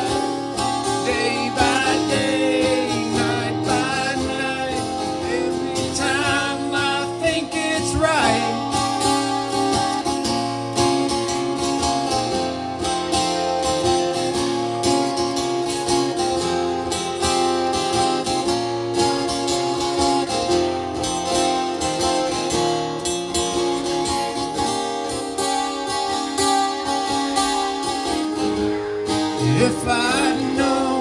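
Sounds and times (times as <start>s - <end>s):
bass guitar: 0.0s - 31.0s
strummed acoustic guitar: 0.0s - 31.0s.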